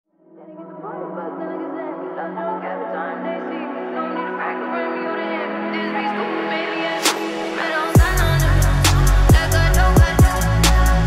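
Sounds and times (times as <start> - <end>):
music with sustained chords: 0.2 - 11.0.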